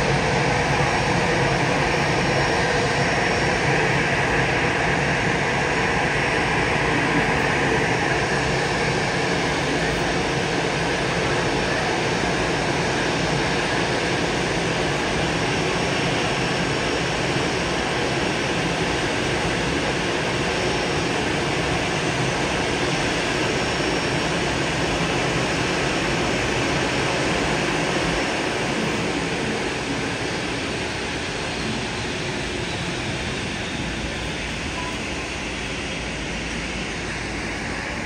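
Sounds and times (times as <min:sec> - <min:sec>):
jet engine rushing: 0:00.0 - 0:38.0.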